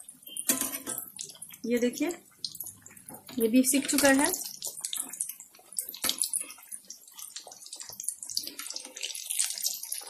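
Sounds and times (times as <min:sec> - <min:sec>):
cutlets sizzling in hot oil: 0:00.0 - 0:10.0.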